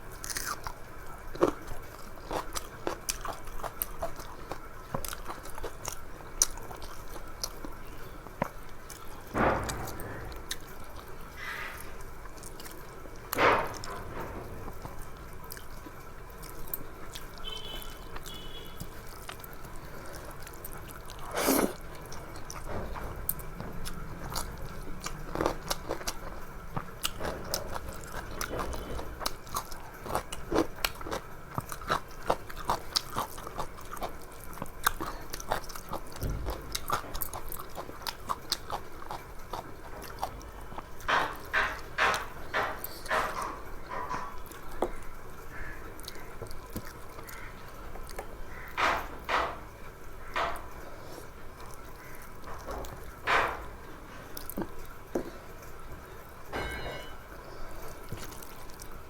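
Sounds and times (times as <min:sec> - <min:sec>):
person chewing food: 0:00.0 - 0:09.3, 0:10.2 - 0:14.0, 0:14.7 - 0:49.1, 0:50.2 - 0:55.8, 0:57.5 - 0:59.0.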